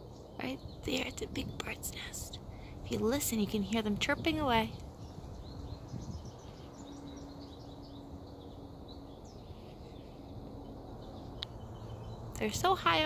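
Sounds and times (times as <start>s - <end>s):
birds chirping: 0.0s - 13.0s
low background rumble: 0.0s - 13.0s.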